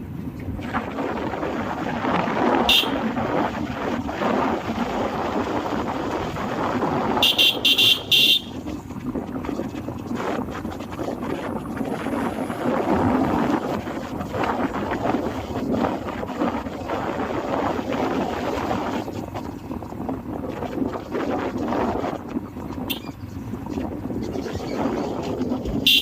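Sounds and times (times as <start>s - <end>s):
vehicle running noise: 0.0s - 26.0s
wind on microphone: 0.0s - 26.0s.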